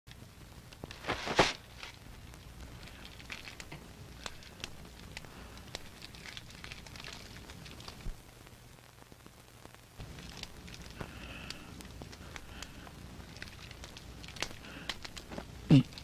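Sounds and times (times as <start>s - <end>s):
faint crackles and clicks: 0.1s - 16.0s
low steady hum: 0.1s - 16.0s.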